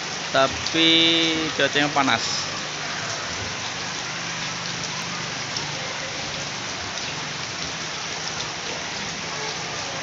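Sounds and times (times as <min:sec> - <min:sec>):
heavy rain on pavement: 0:00.0 - 0:10.0.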